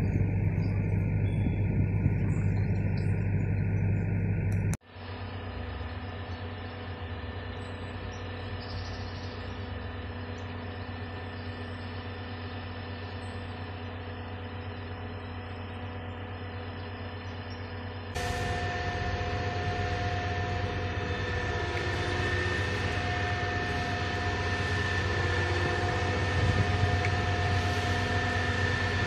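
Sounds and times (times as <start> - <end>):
diesel engine running: 0.0 - 29.0
steady whine: 0.0 - 29.0.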